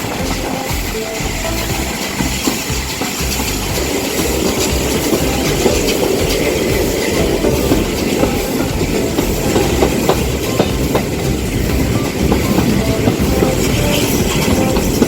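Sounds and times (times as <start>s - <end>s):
train rumbling along track: 0.0s - 15.0s
wheel clicks over rails: 0.0s - 15.0s.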